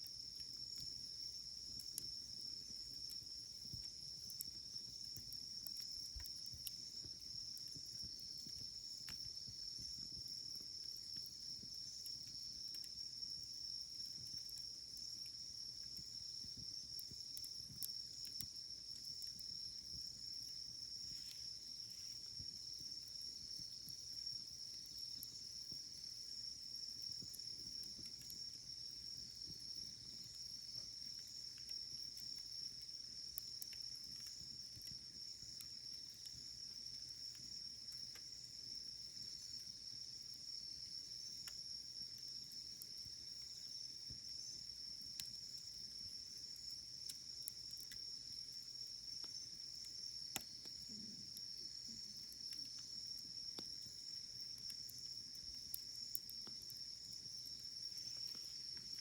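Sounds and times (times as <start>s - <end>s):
crickets chirping: 0.0s - 59.0s
wood fire crackling: 0.2s - 38.5s, 49.0s - 59.0s.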